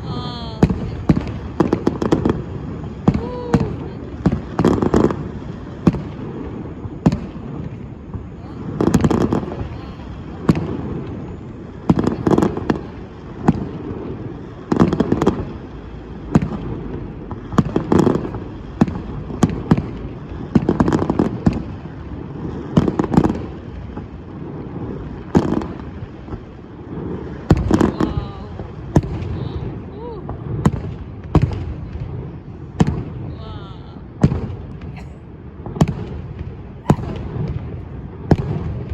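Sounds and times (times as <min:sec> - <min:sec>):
fireworks bangs: 0:00.0 - 0:38.9
low rumbling echo: 0:00.0 - 0:38.9.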